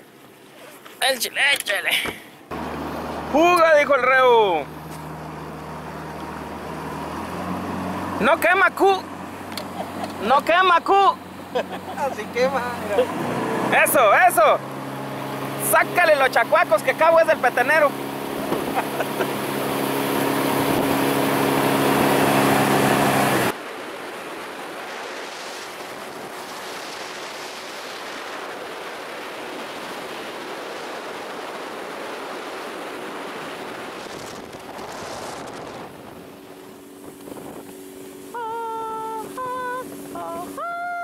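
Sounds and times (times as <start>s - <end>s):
rush of wind and water: 0.0s - 41.0s
outboard motor humming: 2.0s - 41.0s.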